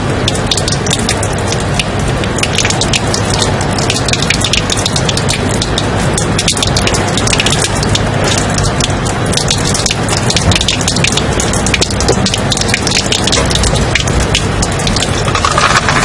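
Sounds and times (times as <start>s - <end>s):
white noise with dense crackles: 0.0s - 16.0s.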